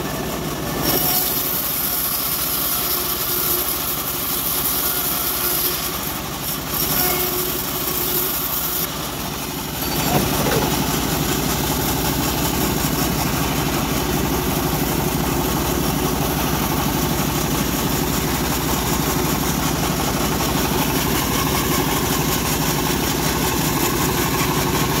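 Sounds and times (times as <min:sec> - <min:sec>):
band sawmill running: 0:00.0 - 0:25.0.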